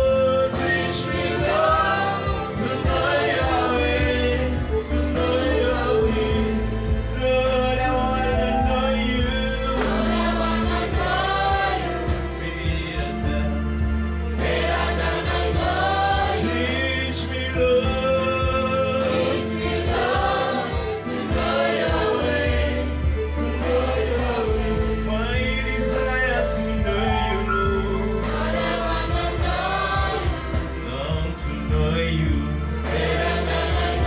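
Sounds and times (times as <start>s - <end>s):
choir singing gospel song: 0.0s - 34.0s
electronic keyboard with bass: 0.0s - 34.0s.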